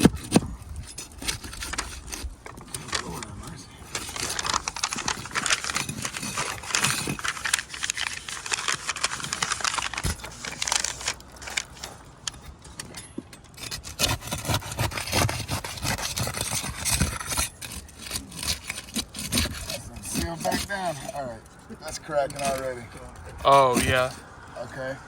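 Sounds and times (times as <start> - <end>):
roof shingles crackling and scraping: 0.0 - 25.0.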